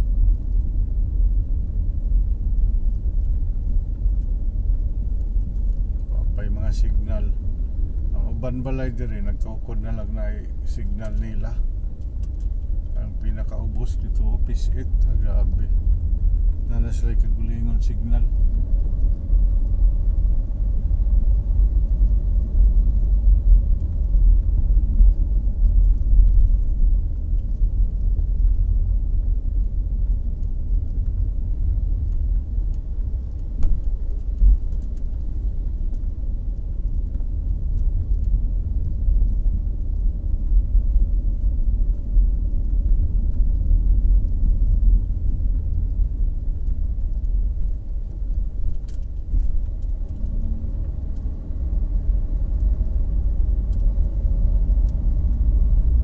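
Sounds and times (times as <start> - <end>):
car interior engine and tyre noise: 0.0 - 56.0.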